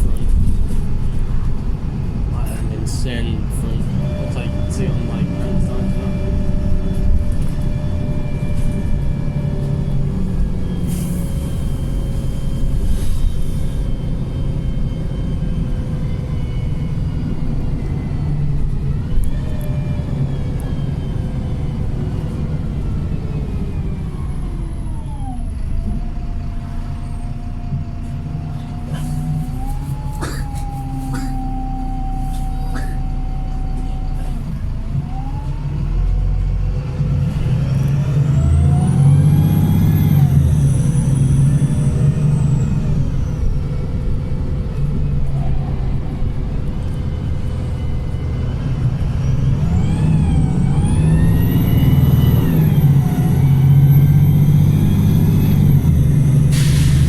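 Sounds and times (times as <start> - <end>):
bus engine rumble with whine: 0.0 - 57.0.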